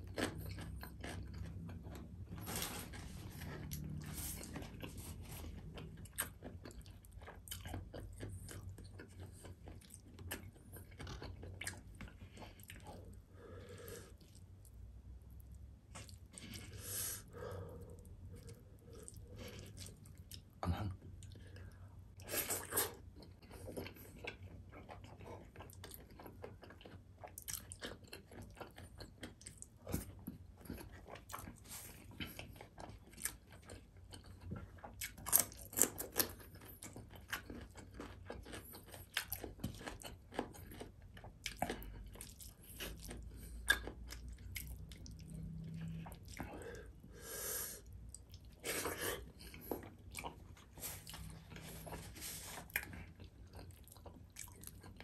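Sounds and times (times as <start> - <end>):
man chewing with wet mouth sounds: 0.0 - 55.0.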